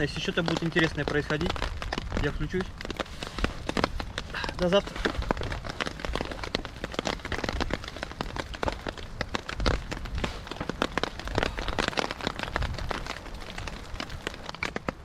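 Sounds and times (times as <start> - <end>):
rain falling: 0.0 - 15.0
raindrops pattering close by: 0.0 - 15.0.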